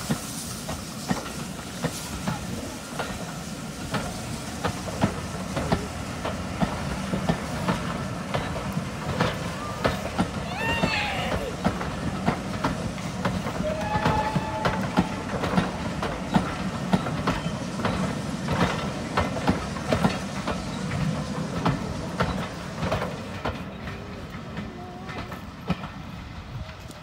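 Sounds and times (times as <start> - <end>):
train rumble: 0.0 - 27.0
train wheels clicking over rail joints: 0.0 - 27.0.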